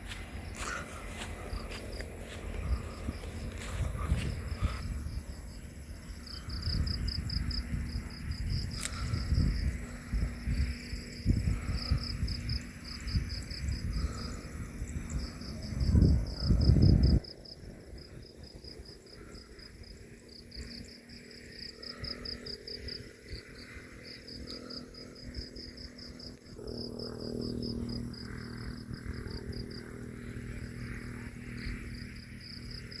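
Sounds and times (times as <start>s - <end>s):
loud irregular low rumble: 0.0s - 17.2s, 23.4s - 33.0s
insects chirping: 0.0s - 33.0s
low steady hum: 0.0s - 33.0s.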